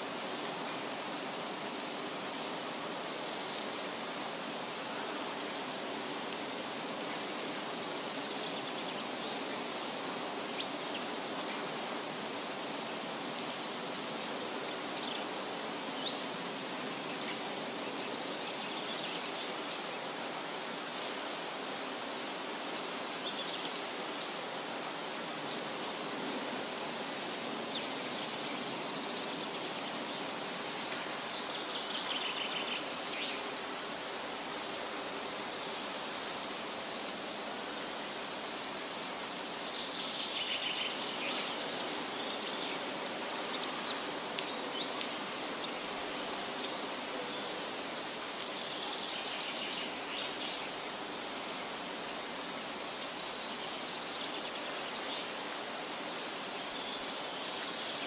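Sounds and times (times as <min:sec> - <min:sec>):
steady forest hiss: 0:00.0 - 0:58.0.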